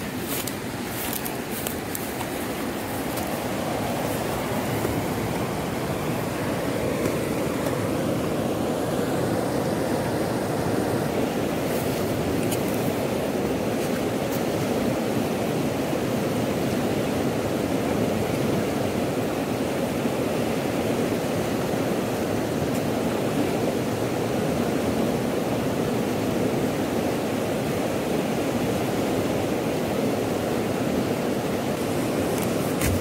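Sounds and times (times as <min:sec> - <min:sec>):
river rushing over rocks: 0:00.0 - 0:33.0.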